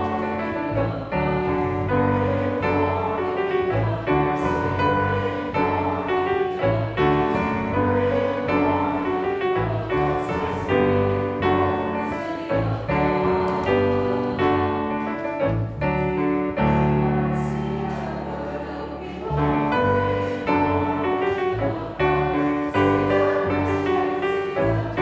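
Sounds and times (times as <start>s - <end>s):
piano playing a hymn: 0.0s - 25.0s.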